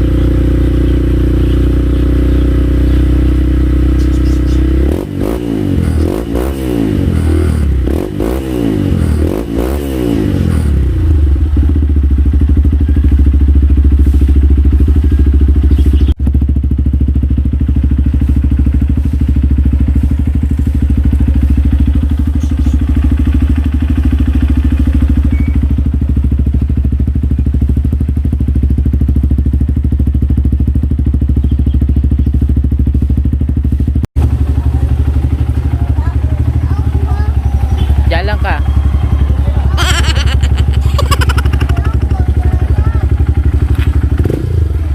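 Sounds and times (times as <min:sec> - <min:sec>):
motorcycle engine revving and idling: 0:00.0 - 0:44.9.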